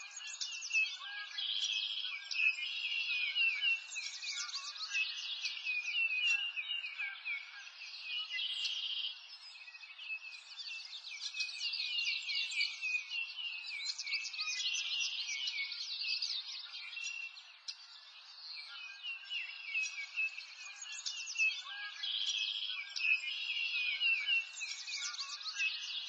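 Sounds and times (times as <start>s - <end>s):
birds chirping in chorus: 0.0s - 26.0s.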